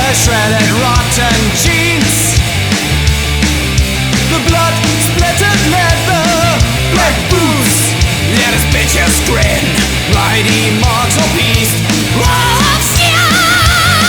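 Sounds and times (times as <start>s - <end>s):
heavy metal band playing: 0.0s - 14.0s
wavering lead guitar line: 0.0s - 14.0s.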